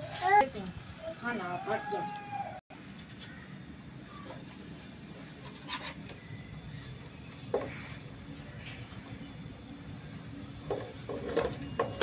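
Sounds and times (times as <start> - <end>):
pancake sizzling on griddle: 0.0 - 12.0.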